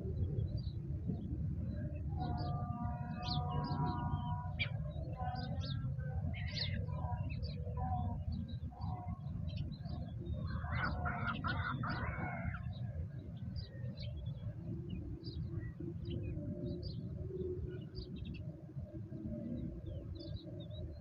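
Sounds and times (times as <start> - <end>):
steady low rumble: 0.0 - 17.1
small birds chirping: 0.0 - 21.0.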